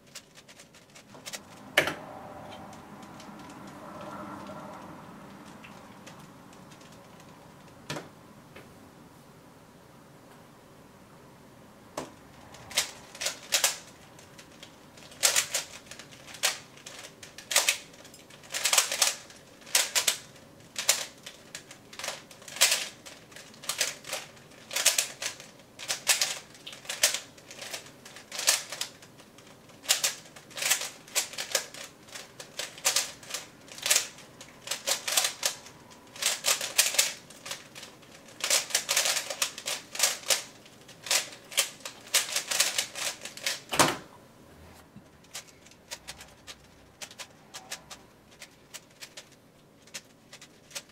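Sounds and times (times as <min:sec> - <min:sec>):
puzzle cube clacking: 0:00.0 - 0:01.7, 0:05.3 - 0:07.8, 0:12.5 - 0:43.7, 0:45.2 - 0:50.9.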